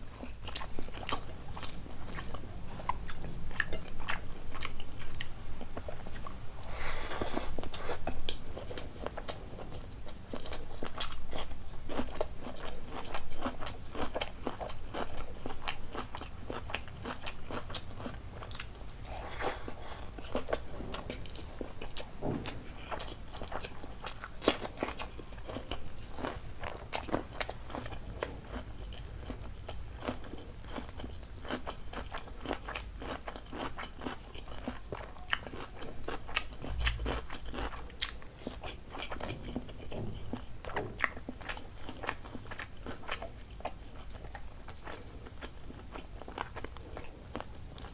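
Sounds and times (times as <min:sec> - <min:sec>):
person chewing crunchy food: 0:00.0 - 0:47.9.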